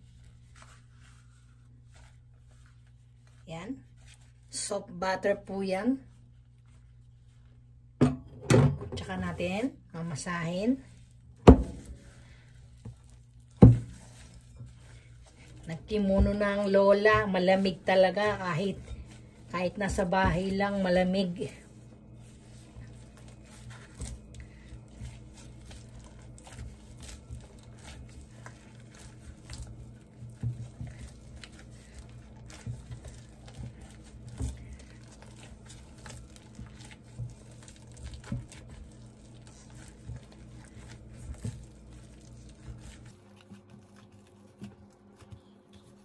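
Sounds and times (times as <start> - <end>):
plastic glove crinkling: 0.0 - 8.0, 9.2 - 46.0
dough squelching: 0.0 - 8.1, 8.8 - 46.0
steady low hum: 0.0 - 46.0.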